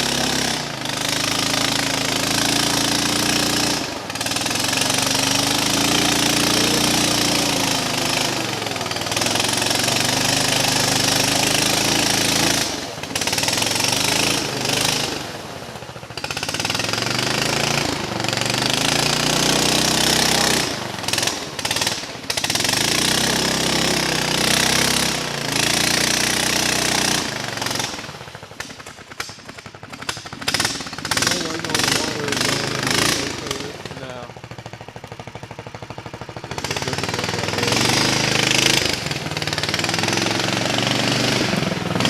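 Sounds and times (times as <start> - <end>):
small engine revving: 0.0 - 42.0.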